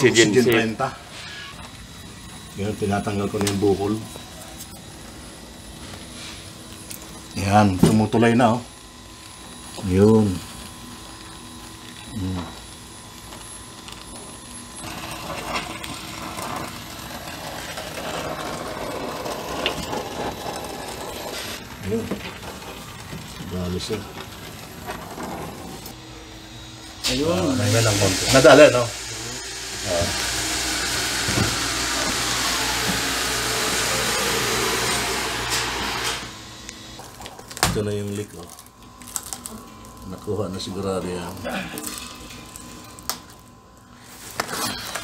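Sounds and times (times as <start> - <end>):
torch flame hissing: 0.0 - 45.0.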